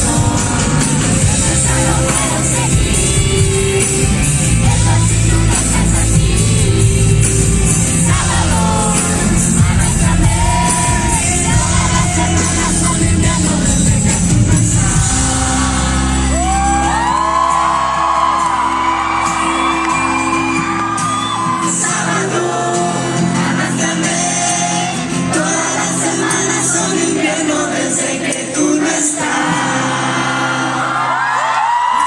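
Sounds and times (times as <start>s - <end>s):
crowd shouting and whooping: 0.0s - 27.2s, 29.2s - 32.0s
live pop-rock band with singing: 0.0s - 32.0s.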